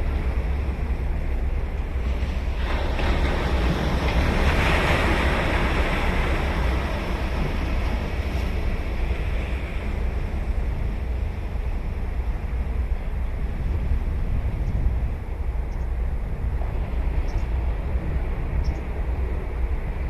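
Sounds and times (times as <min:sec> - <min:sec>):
ocean surf on sandy beach: 0:00.0 - 0:20.0
wind rumble on microphone: 0:00.0 - 0:20.0.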